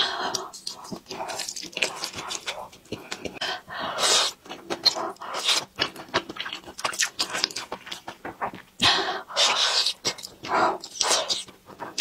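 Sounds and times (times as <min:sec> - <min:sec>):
noodle slurping and chewing: 0:00.0 - 0:12.0.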